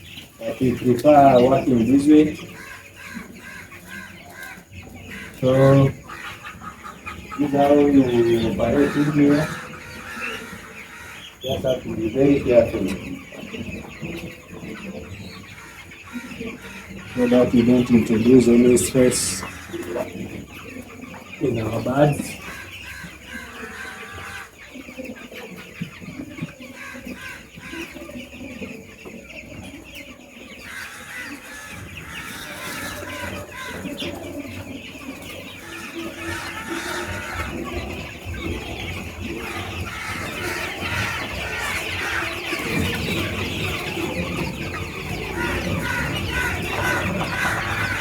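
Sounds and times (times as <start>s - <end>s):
chickens cheeping and clucking: 0.0s - 48.0s.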